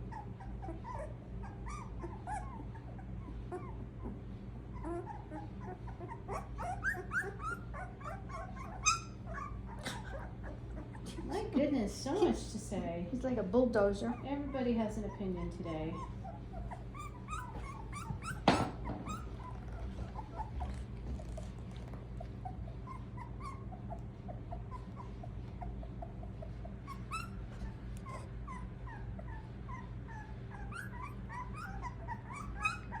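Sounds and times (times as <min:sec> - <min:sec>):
puppies squeaking and whimpering: 0:00.0 - 0:12.3, 0:13.8 - 0:33.0
steady low hum: 0:00.0 - 0:33.0.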